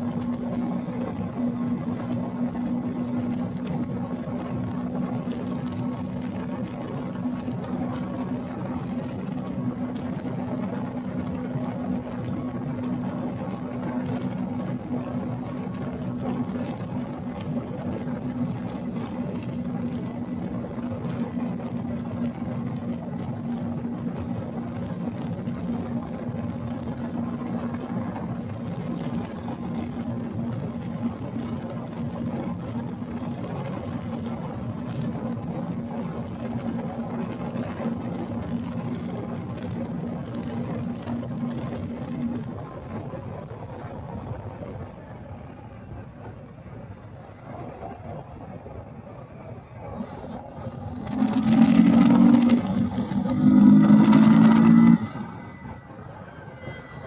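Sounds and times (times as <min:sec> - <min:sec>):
motorcycle engine running: 0:00.0 - 0:45.6, 0:46.3 - 0:57.0.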